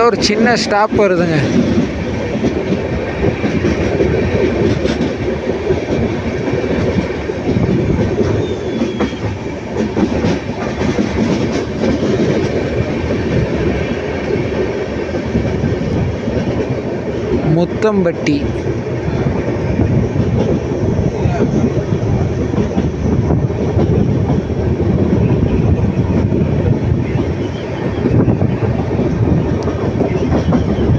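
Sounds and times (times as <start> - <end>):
train rumbling: 0.0 - 30.9
wheels clacking over rail joints: 0.0 - 30.9.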